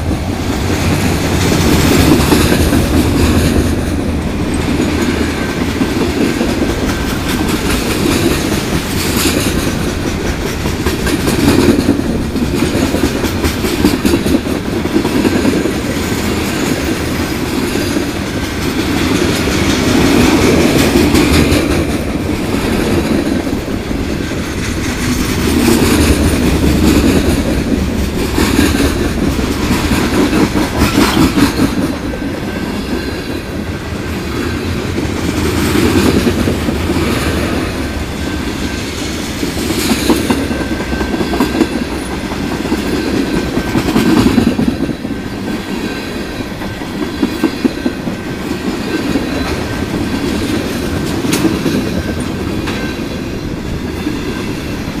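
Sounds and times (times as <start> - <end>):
clickety-clack of rail joints: 0.0 - 55.0
train wheels rumbling on rails: 0.0 - 55.0.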